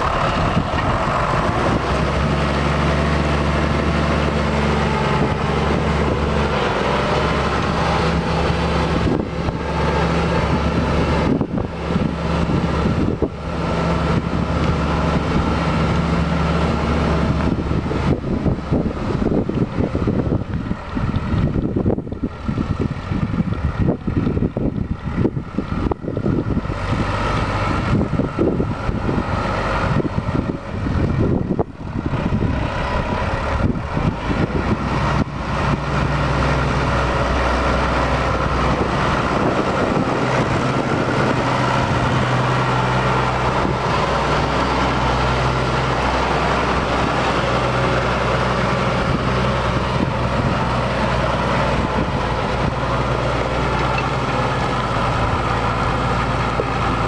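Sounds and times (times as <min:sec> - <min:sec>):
tractor diesel engine running: 0:00.0 - 0:57.0
wind buffeting microphone: 0:00.0 - 0:57.0.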